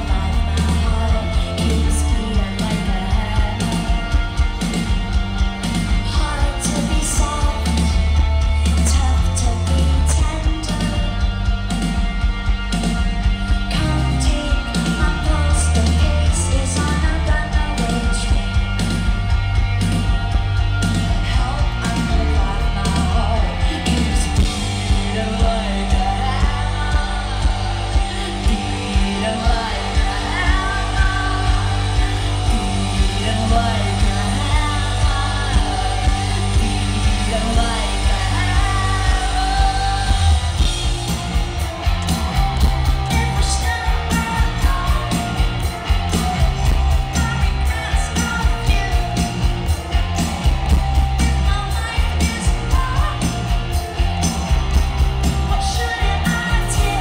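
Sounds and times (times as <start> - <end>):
woman singing: 0.0 - 40.9, 42.5 - 57.0
live rock band playing: 0.0 - 57.0.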